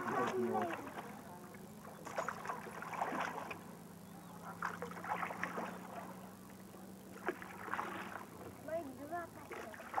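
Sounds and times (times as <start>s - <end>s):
water splashing against rowboat: 0.0s - 10.0s.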